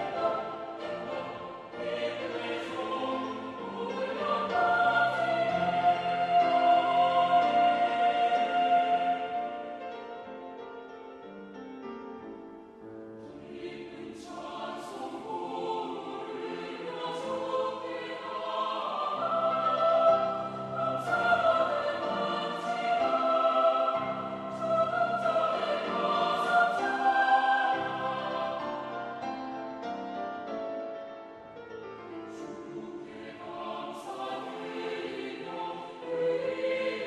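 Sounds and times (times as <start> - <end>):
choir singing: 0.0 - 10.7, 13.2 - 30.7, 32.0 - 37.0.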